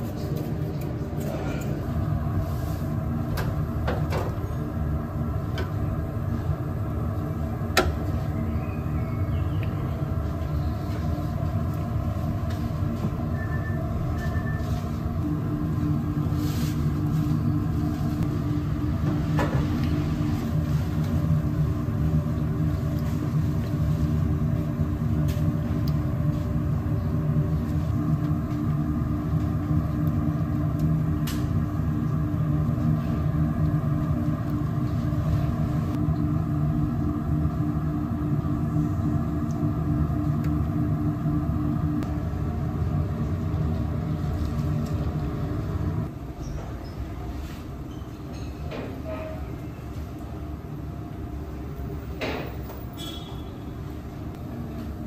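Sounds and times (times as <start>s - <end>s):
kitchen machine hum: 0.0s - 55.0s.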